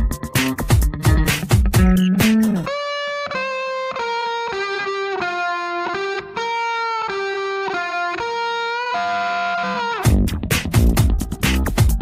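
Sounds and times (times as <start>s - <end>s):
background music melody: 0.0s - 12.0s.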